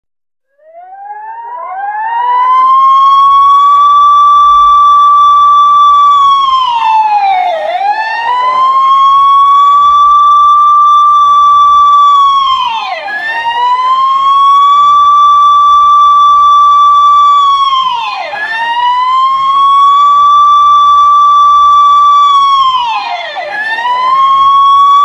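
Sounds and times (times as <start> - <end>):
police siren wailing: 0.6 - 25.0.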